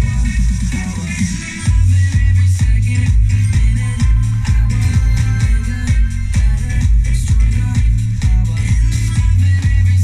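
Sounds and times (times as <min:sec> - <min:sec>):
dance music with heavy bass: 0:00.0 - 0:10.0.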